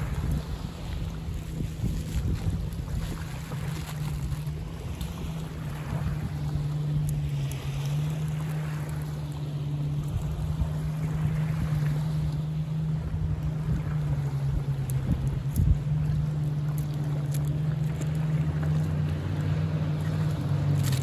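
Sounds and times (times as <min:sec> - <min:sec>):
motorboat engine droning: 0:00.0 - 0:21.0
wind buffeting microphone: 0:00.0 - 0:21.0.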